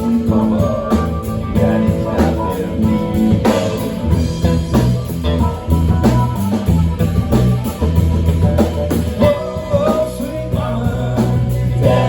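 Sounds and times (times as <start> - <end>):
blues-rock band playing: 0.0 - 12.0.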